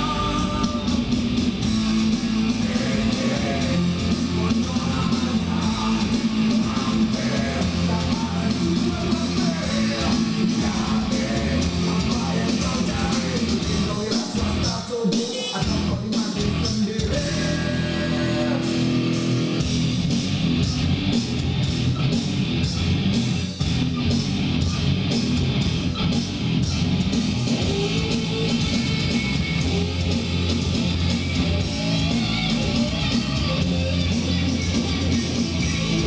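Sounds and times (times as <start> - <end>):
rock music with guitar and beat: 0.0 - 36.0.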